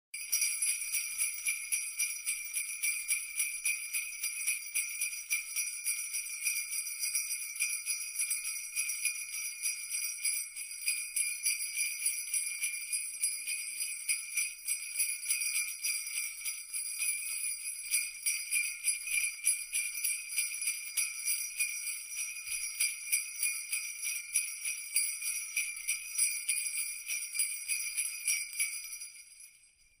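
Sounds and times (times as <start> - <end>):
jingle bells shaken: 0.2 - 30.0.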